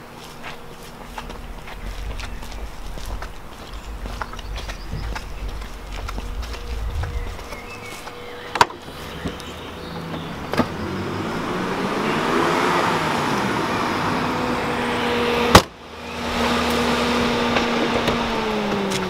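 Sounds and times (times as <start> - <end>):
vehicle hum: 0.0 - 19.0.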